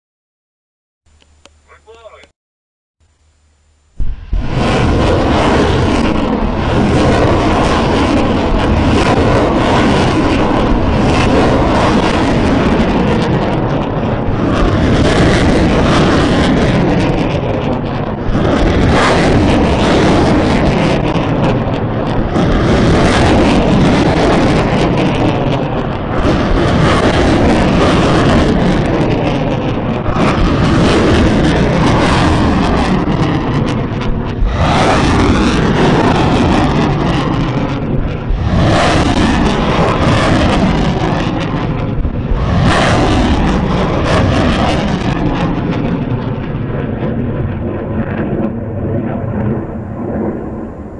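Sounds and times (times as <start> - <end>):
rocket motors roaring: 1.1 - 2.3, 3.0 - 50.9
rocket launches: 4.0 - 50.9.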